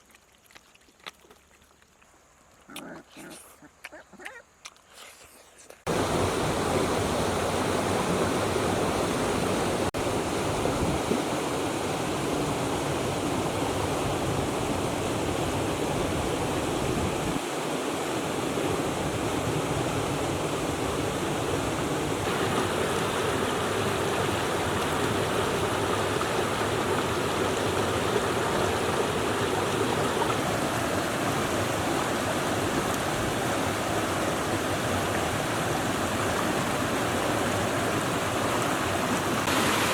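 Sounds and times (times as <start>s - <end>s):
stream water rushing: 5.9s - 39.9s.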